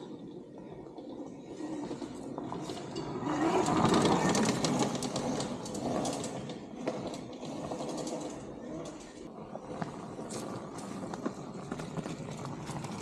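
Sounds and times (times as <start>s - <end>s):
electric motorbike motor running: 0.0s - 13.0s.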